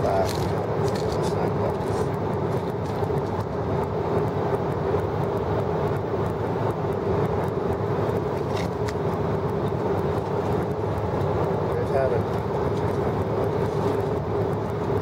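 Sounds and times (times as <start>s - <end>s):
constant cabin hum: 0.0s - 15.0s
jet cabin engine and airflow rush: 0.0s - 15.0s.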